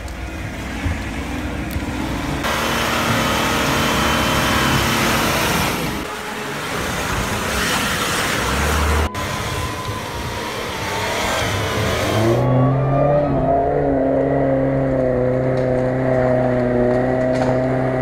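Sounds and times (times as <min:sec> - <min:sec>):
off-road vehicle engine under load: 0:00.0 - 0:18.0
tyres churning through mud: 0:00.0 - 0:18.0.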